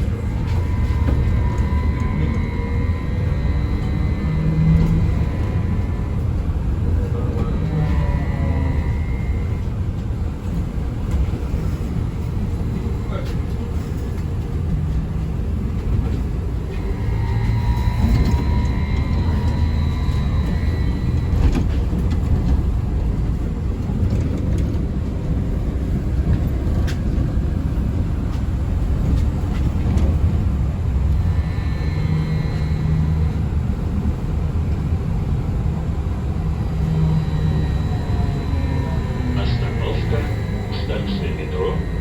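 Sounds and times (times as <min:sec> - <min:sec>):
faint whine: 0:00.0 - 0:14.3, 0:15.6 - 0:42.0
vehicle cabin low rumble: 0:00.0 - 0:42.0.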